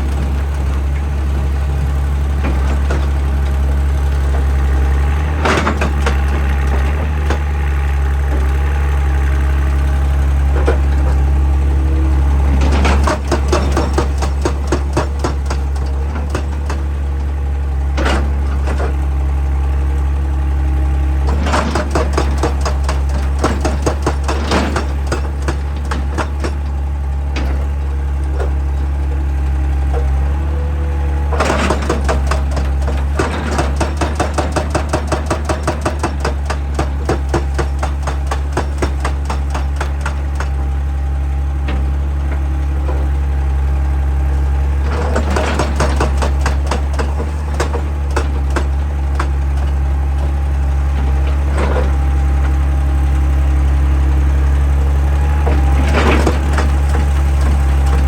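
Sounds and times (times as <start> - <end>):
hydraulic breaker hammer pounding rock: 0.0 - 19.4, 21.2 - 58.0
diesel engine running: 0.0 - 58.0.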